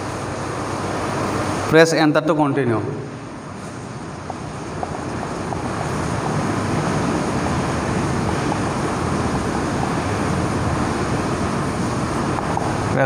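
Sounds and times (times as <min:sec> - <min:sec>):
steady rushing background noise: 0:00.0 - 0:13.0.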